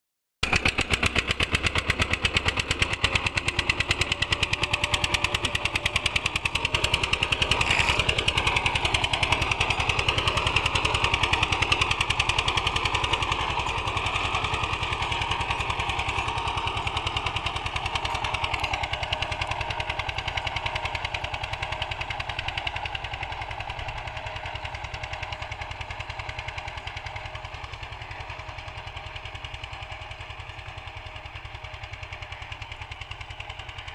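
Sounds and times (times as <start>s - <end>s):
tractor diesel engine chugging: 0.4s - 33.9s.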